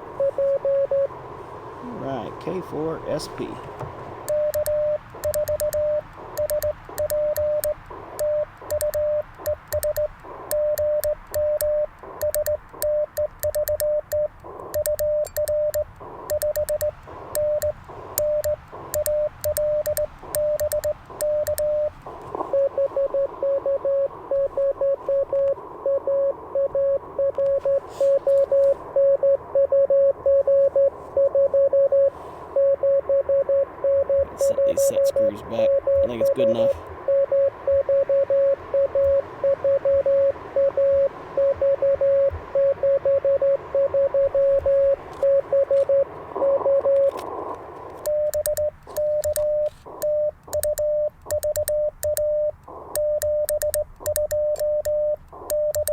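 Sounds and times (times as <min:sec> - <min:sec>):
receiver hiss: 0:00.0 - 0:55.9
morse code sidetone: 0:00.2 - 0:01.1, 0:04.3 - 0:47.2, 0:48.1 - 0:55.9
received morse code tone: 0:00.2 - 0:01.1, 0:04.3 - 0:47.2, 0:48.1 - 0:55.9.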